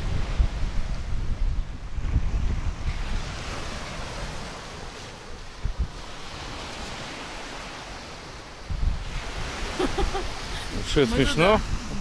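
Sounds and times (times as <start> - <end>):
surf washing onto beach: 0.0 - 12.0
wind gusting on microphone: 0.0 - 12.0.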